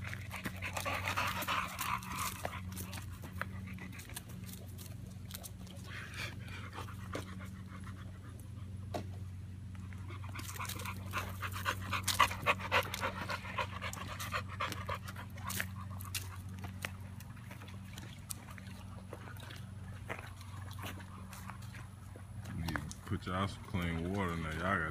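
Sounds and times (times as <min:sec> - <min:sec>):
dogs panting: 0:00.0 - 0:24.9
steady low hum: 0:00.0 - 0:24.9.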